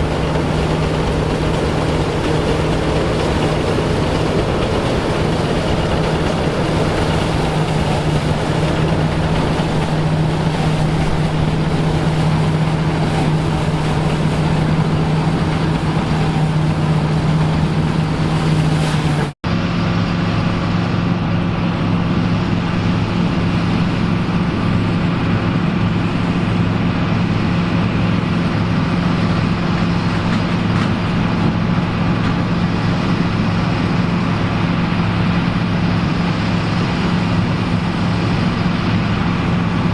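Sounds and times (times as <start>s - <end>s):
farm machinery engine humming: 0.0s - 39.9s
lower-pitched engine running: 0.0s - 39.9s.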